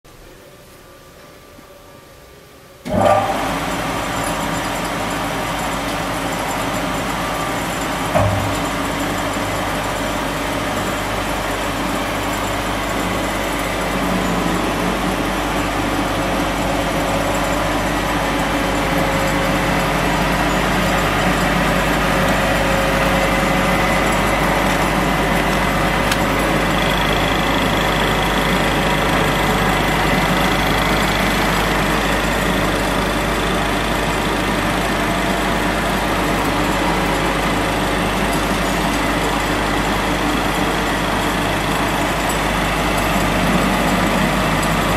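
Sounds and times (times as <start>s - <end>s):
sanding machine humming: 2.9s - 44.9s.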